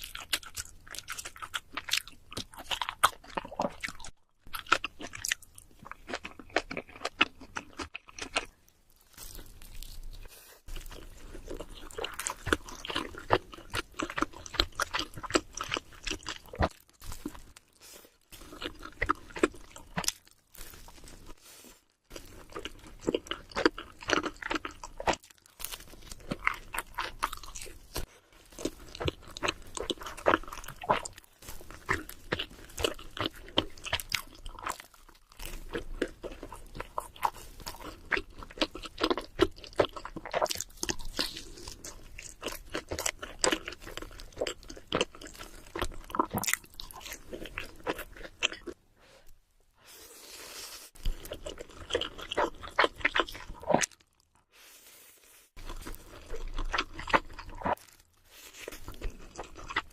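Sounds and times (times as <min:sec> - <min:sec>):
chewing and crunching pizza: 0:00.0 - 0:59.9.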